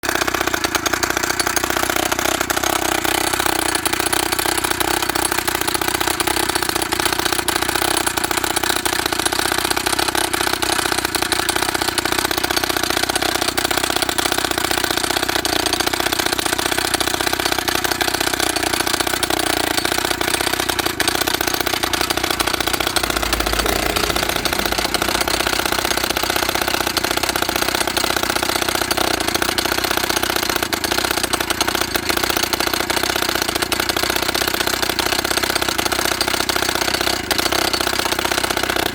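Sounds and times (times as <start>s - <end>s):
two-stroke petrol engine running: 0.0s - 38.9s.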